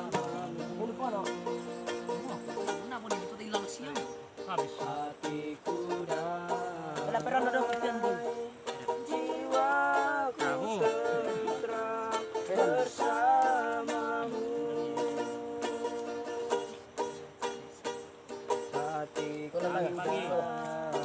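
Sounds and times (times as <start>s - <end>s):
person singing slow song: 0.0s - 2.6s, 4.8s - 21.0s
strummed acoustic string instrument: 0.0s - 21.0s.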